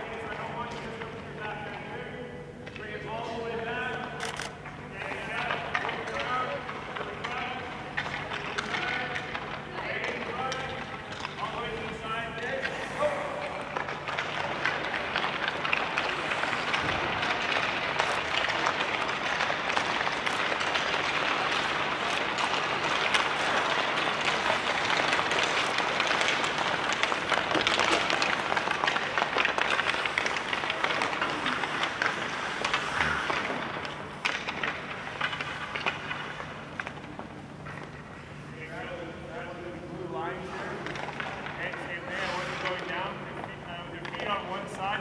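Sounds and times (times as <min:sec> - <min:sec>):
clacks of sticks and pucks: 0:00.0 - 0:45.0
skate blades scraping ice: 0:05.0 - 0:45.0.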